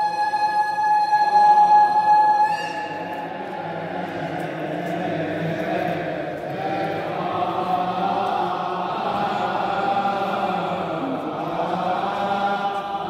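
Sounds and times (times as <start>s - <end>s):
voices chanting a prayer: 0.0s - 13.0s.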